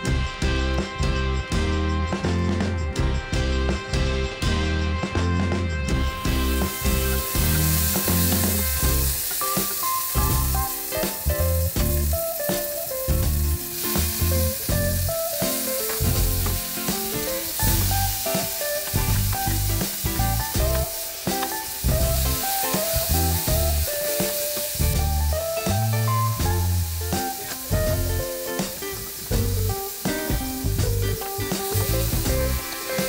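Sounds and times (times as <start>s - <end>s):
background music with bass beat: 0.0s - 33.0s
garlic sizzling in oil: 5.9s - 33.0s.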